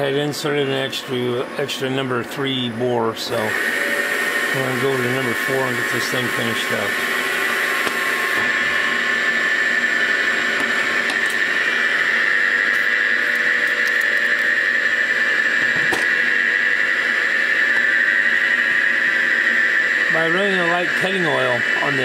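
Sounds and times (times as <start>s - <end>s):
mill cutting metal whine: 0.0s - 22.0s.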